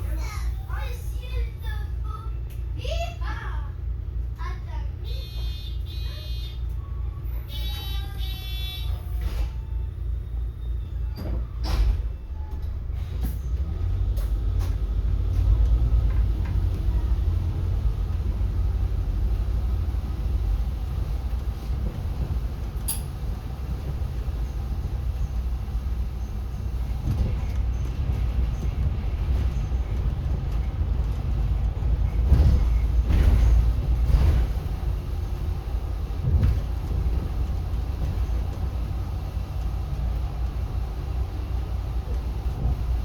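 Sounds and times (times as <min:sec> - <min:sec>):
bus engine and road rumble: 0:00.0 - 0:43.0.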